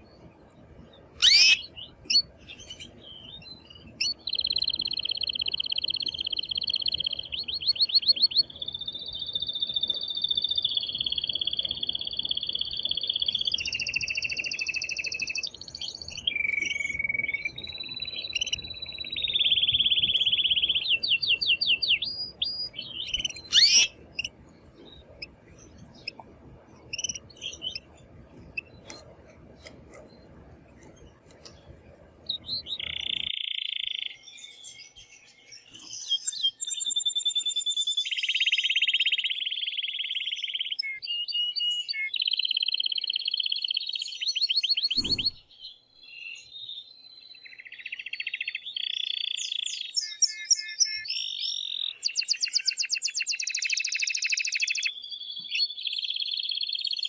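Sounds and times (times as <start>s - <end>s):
canary singing trills: 0.0s - 57.0s
canary chirps: 1.1s - 57.0s.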